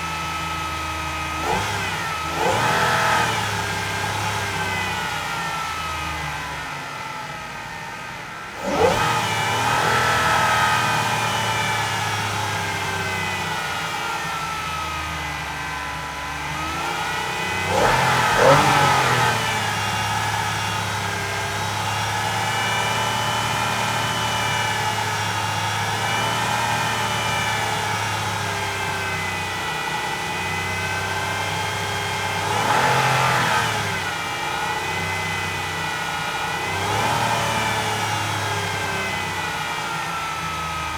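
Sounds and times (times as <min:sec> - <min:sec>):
sports car engine revving: 0:00.0 - 0:40.9.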